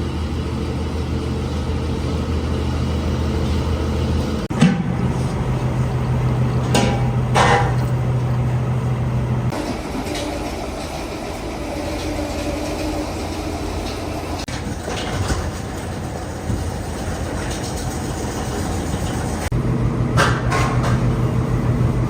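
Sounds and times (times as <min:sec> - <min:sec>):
workshop machinery hum: 0:00.0 - 0:22.0.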